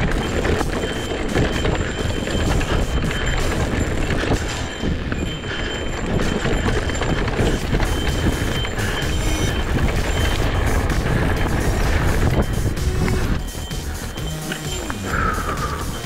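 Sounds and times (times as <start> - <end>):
bike rattling over rocks: 0.0 - 16.0
tyres rumbling on dirt: 0.0 - 16.0.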